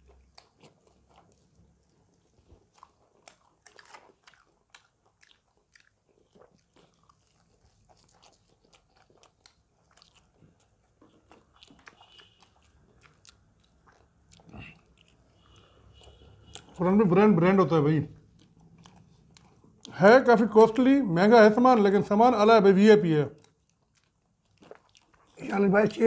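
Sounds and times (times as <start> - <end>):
chewing crispy fried chicken: 0.0 - 26.0.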